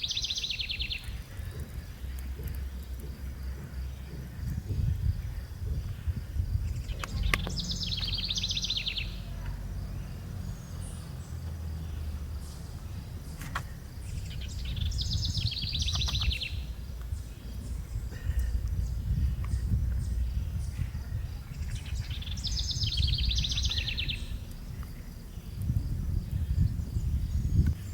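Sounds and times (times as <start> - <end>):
low rumble: 0.7 - 27.9.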